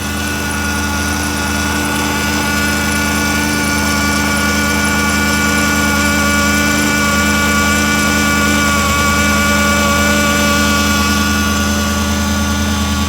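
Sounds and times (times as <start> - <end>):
car engine idling: 0.0 - 13.0
power steering pump whine: 0.0 - 13.0.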